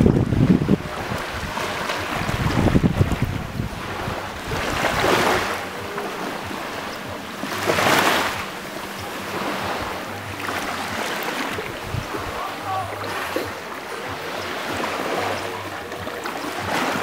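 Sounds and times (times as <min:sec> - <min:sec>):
sea waves breaking on rocks: 0:00.0 - 0:17.0.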